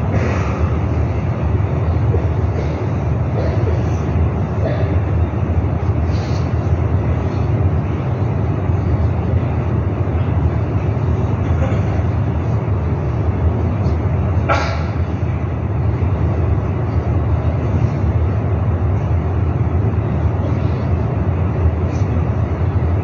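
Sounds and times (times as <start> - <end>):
low rumble of crowded hall: 0.0 - 23.0.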